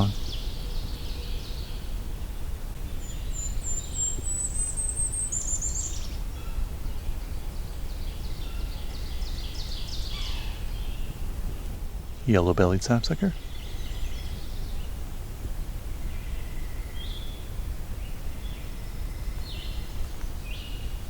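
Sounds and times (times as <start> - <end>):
high thin birdsong: 0.0 - 21.0
low rumble background noise: 0.0 - 21.0.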